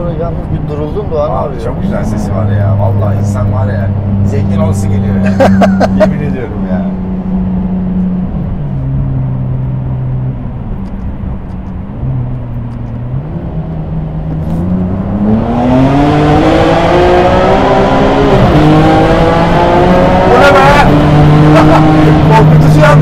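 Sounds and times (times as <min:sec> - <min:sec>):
car engine from inside cabin: 0:00.1 - 0:23.0.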